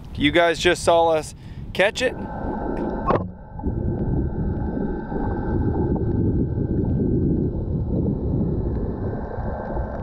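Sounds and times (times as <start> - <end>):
muffled underwater rumble: 2.0 - 10.0.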